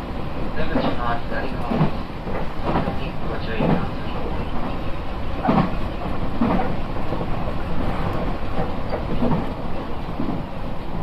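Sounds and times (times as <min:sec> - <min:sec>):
train clatters: 0:00.0 - 0:11.0
train wheels rumbling on rail: 0:00.0 - 0:11.0.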